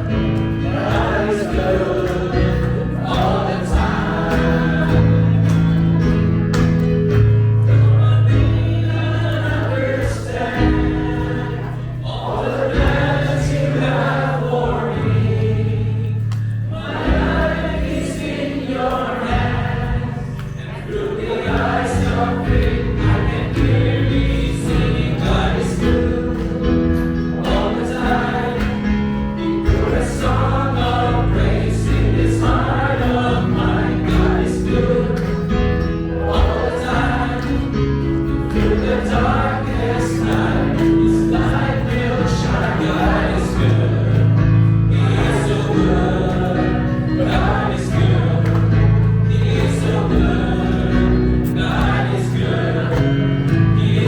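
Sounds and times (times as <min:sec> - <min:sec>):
gospel choir singing: 0:00.0 - 0:54.0.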